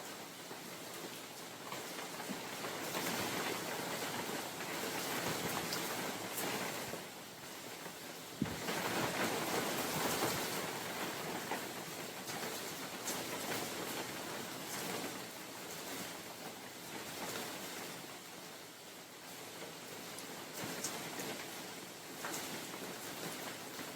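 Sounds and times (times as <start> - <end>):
rain falling in a forest: 0.0 - 23.9
wind: 0.0 - 23.9.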